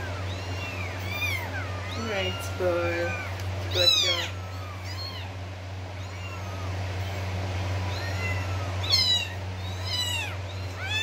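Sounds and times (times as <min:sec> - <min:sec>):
kittens mewing: 0:00.0 - 0:11.0
steady low hum: 0:00.0 - 0:11.0.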